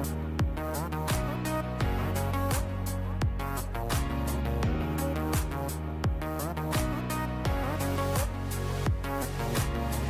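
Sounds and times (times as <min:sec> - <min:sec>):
bass drum beat: 0:00.0 - 0:10.0
upbeat background music: 0:00.0 - 0:10.0.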